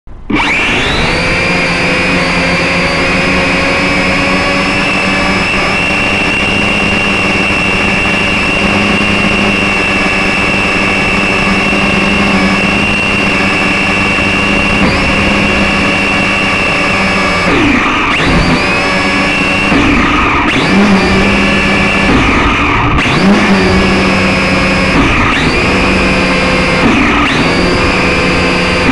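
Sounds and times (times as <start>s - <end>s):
small electric motors whining: 0.3s - 28.9s.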